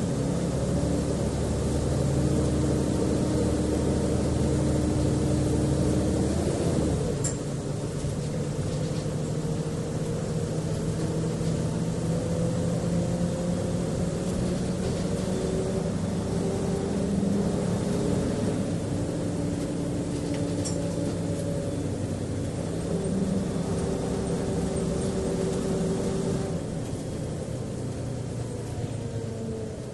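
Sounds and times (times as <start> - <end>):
bus engine humming: 0.0 - 29.9.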